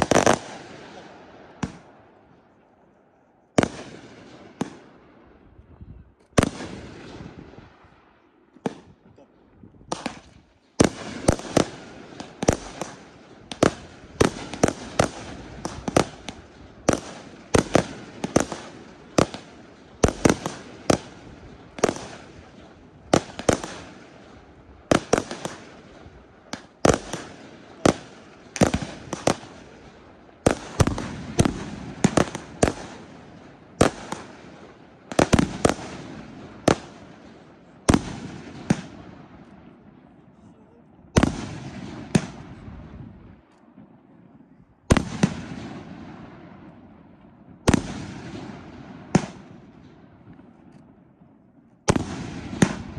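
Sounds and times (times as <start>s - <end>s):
fireworks bursting with sharp bangs: 0.0s - 2.8s, 3.4s - 5.5s, 6.1s - 52.9s.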